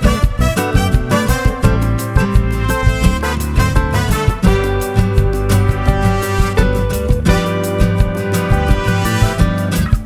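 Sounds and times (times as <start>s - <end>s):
upbeat music with plucked guitar: 0.0s - 10.0s.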